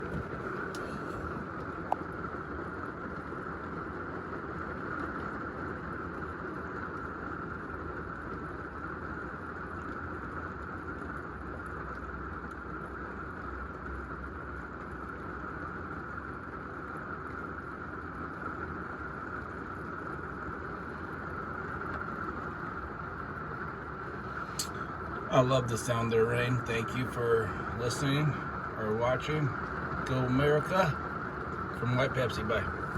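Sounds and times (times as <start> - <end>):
rain falling on a roof: 0.0 - 26.6, 27.3 - 32.9.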